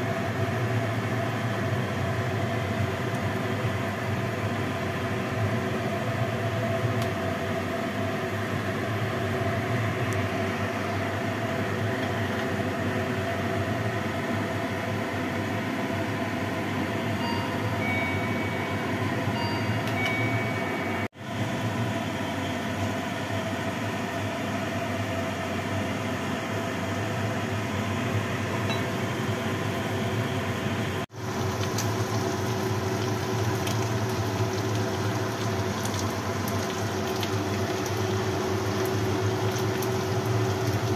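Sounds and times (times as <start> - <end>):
gas stove hum and hiss: 0.0 - 40.9.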